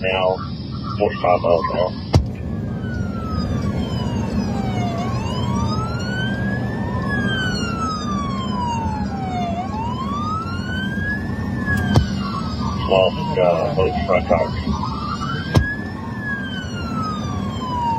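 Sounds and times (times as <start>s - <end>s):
police siren wailing: 0.0s - 17.9s
road noise rumble: 0.0s - 17.9s.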